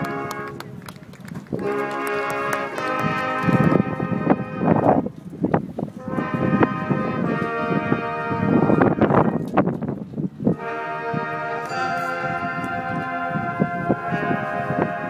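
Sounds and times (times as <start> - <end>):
brass chords: 0.0 - 0.8, 1.6 - 5.1, 5.9 - 9.6, 10.4 - 15.0.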